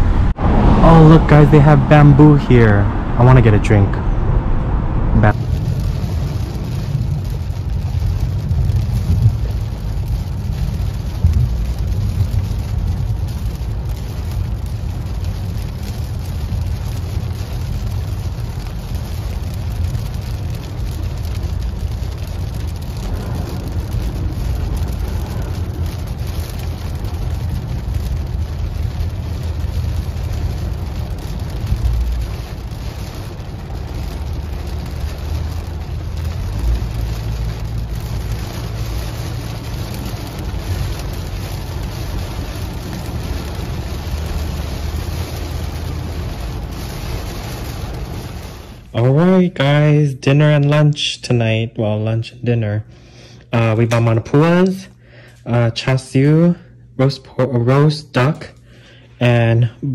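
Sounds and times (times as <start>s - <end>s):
car road rumble: 0.0s - 49.9s
rain on car: 0.0s - 51.8s, 53.2s - 57.0s, 57.6s - 59.9s.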